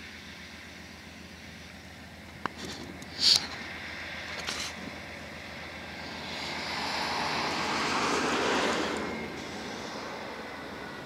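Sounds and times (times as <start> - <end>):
diesel locomotives droning: 0.0 - 11.0.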